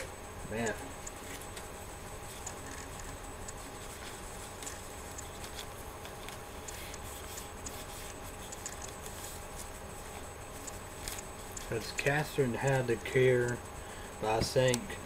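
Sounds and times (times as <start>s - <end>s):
faint ticks and clicks: 0.0s - 15.0s.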